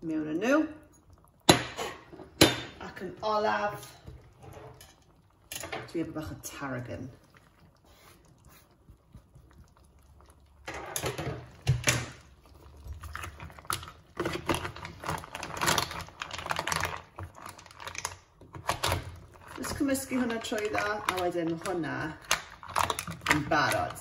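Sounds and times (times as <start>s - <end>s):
mussel shells clicking in saucepan: 0.4s - 7.8s, 8.8s - 24.0s.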